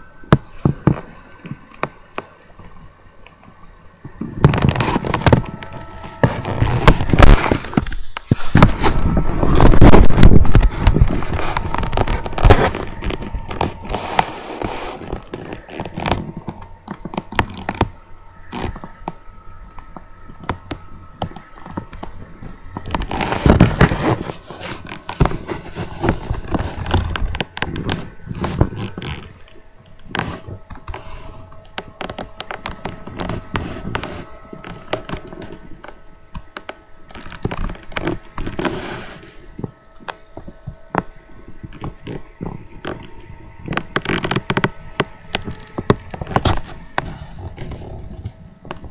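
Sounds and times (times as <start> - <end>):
paper rustling against microphone: 4.0 - 48.9.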